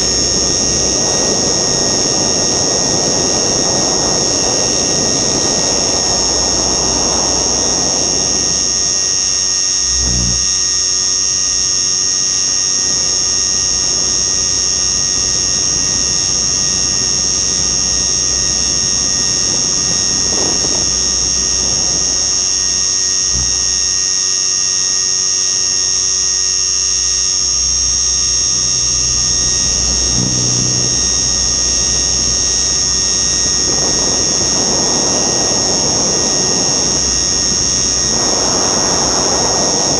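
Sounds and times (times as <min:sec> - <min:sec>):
wind rumble on microphone: 0:00.0 - 0:09.1, 0:13.4 - 0:24.1, 0:27.5 - 0:39.9
helicopter motor and rotor whine: 0:00.0 - 0:39.9.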